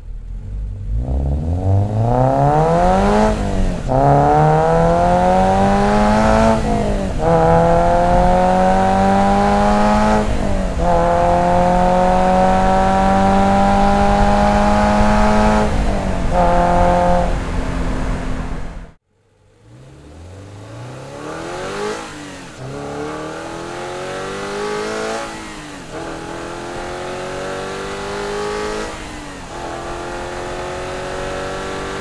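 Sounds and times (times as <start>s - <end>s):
car engine accelerating through gears: 0.0s - 32.0s.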